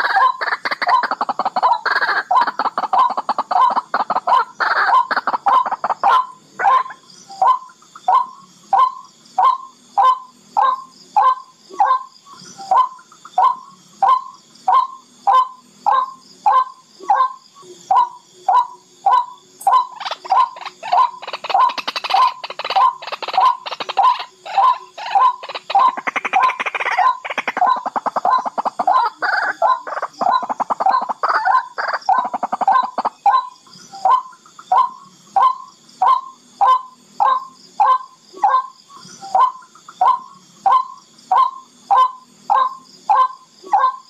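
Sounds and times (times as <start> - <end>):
bird calling: 0.0 - 44.0.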